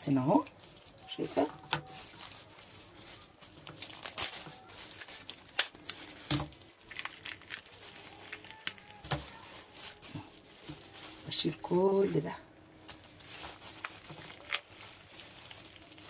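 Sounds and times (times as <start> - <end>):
plastic sheet crinkling: 0.0 - 16.0.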